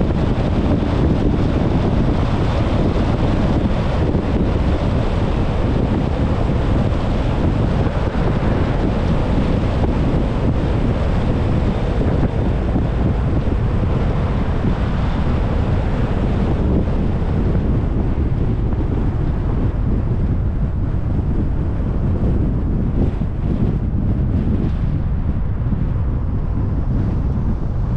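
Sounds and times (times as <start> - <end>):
road noise: 0.0 - 27.9
wind buffeting microphone: 0.0 - 27.9.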